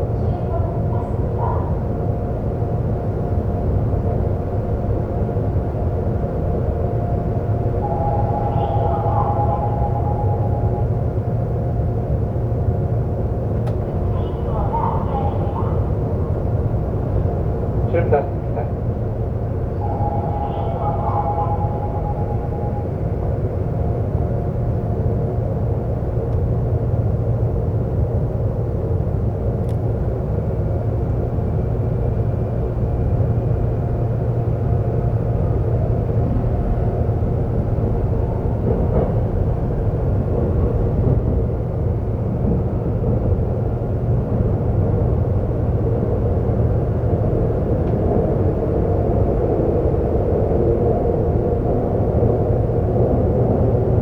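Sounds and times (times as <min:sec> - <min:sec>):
subway train rumbling: 0:00.0 - 0:54.0.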